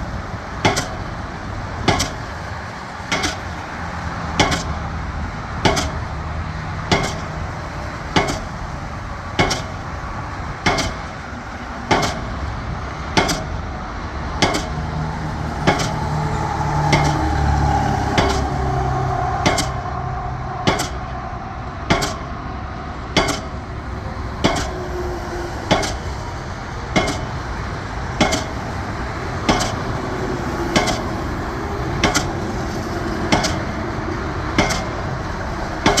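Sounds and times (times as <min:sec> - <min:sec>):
piling rig engine rumble: 0:00.0 - 0:36.0
pile hammer metallic blows: 0:00.5 - 0:13.8, 0:14.4 - 0:36.0.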